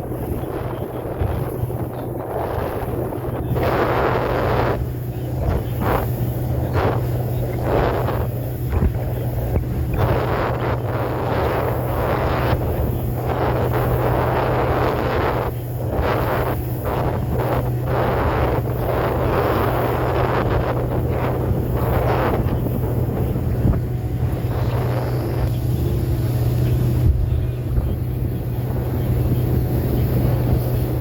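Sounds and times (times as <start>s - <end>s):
boat motor running: 0.0s - 31.0s
wind buffeting microphone: 0.0s - 31.0s.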